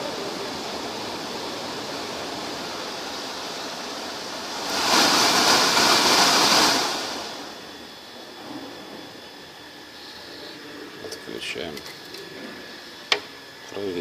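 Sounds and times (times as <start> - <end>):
heater blower fan rushing air: 0.0 - 14.0.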